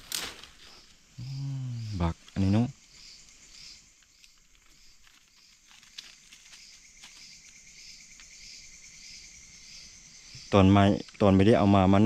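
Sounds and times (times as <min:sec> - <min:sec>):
crickets chirping: 0:00.0 - 0:12.0
insects high trill: 0:00.0 - 0:12.0.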